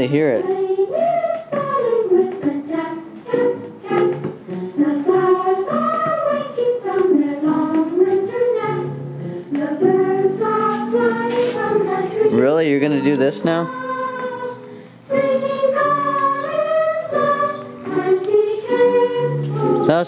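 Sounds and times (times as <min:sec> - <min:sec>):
children's song from record player: 0:00.0 - 0:20.0.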